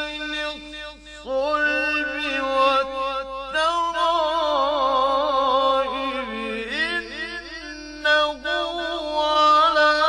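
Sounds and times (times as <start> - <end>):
man chanting melodic recitation: 0.0 - 10.0.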